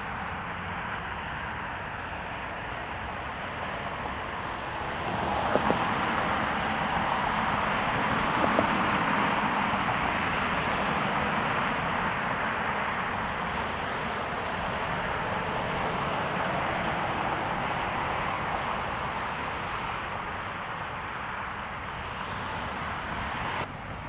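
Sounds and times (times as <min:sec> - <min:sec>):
jet airliner engines: 0:00.0 - 0:24.0.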